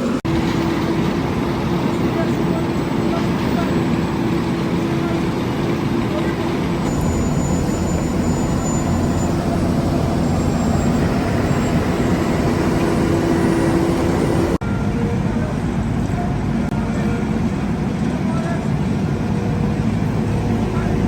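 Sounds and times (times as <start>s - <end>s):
road construction machinery running: 0.0s - 21.0s.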